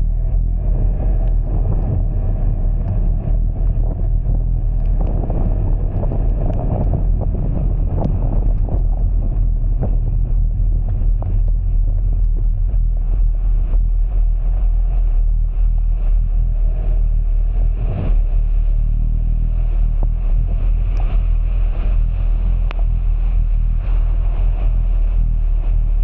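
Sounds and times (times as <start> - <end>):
vehicle rumble: 0.0 - 26.0
wind buffeting microphone: 0.0 - 26.0.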